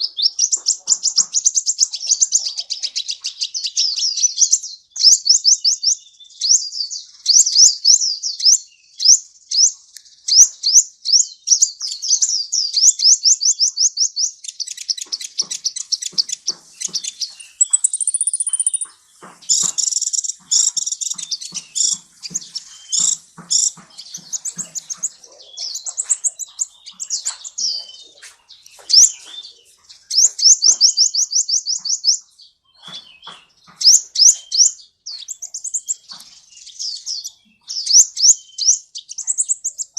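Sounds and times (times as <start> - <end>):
sunbird singing high chirps and trills: 0.0 - 39.9.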